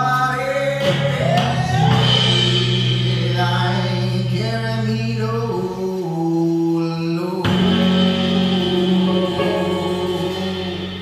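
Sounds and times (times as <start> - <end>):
electric guitar: 0.0 - 6.5, 7.2 - 11.0
bass guitar: 0.0 - 11.0
drums: 0.0 - 11.0
person singing long notes: 0.0 - 11.0.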